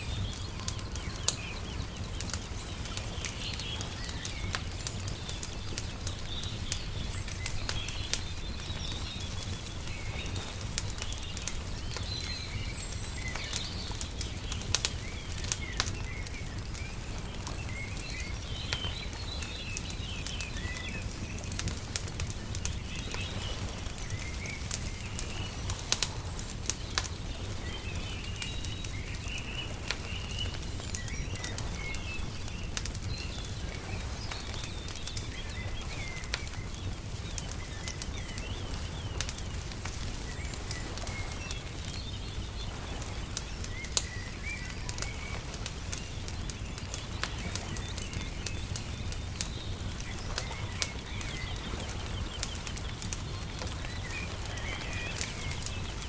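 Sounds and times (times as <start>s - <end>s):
small birds chirping: 0.0s - 56.0s
wood fire crackling and popping: 0.0s - 56.0s.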